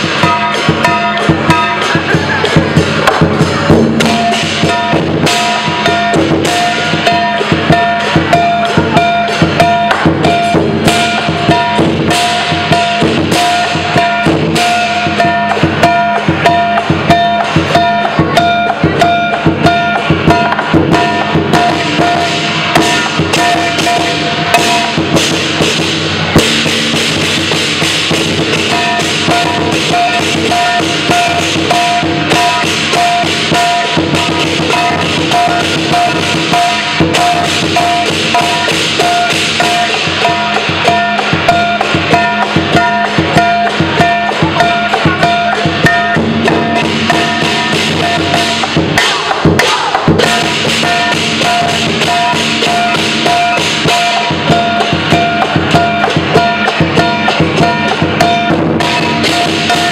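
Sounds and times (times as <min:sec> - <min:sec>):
gong ringing: 0:00.0 - 0:02.6, 0:03.4 - 0:48.9, 0:50.2 - 0:59.9
cymbals: 0:00.0 - 0:59.9
large drum beaten fast: 0:00.0 - 0:59.9.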